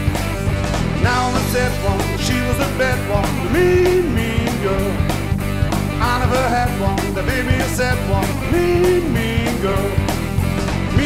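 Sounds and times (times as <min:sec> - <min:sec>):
bending lead melody: 0:00.0 - 0:11.0
rock drum beat: 0:00.0 - 0:11.0.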